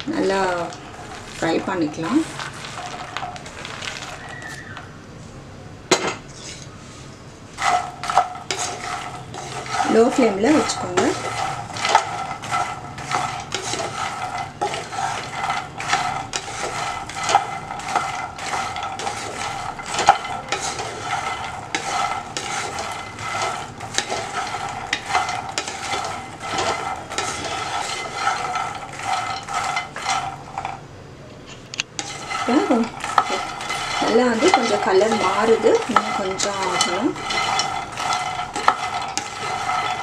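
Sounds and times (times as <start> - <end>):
spatula scraping seeds in pan: 0.0 - 4.7, 6.2 - 30.8, 31.8 - 40.0.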